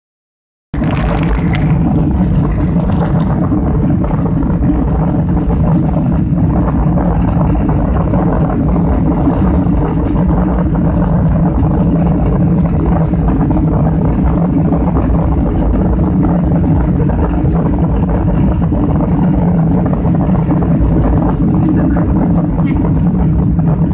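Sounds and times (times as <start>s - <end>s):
deep rumble: 0.7s - 23.9s
airliner engine and cabin noise: 0.8s - 23.9s
faint steady hum: 0.8s - 23.9s.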